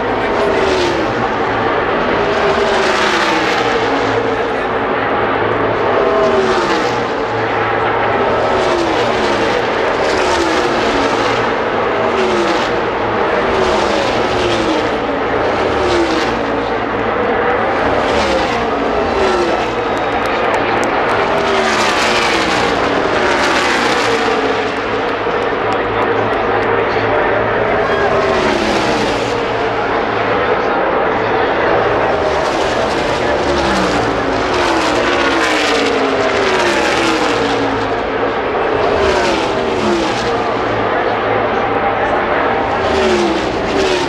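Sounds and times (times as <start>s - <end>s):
race cars passing at full throttle: 0.0s - 44.0s.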